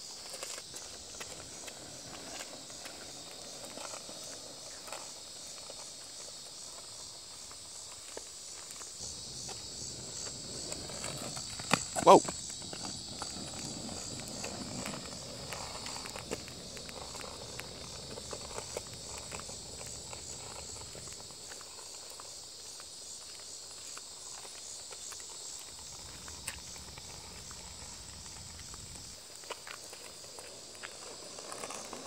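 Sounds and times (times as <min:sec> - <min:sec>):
insects buzzing: 0:00.0 - 0:32.0
skateboard wheels rolling on asphalt: 0:00.0 - 0:32.0.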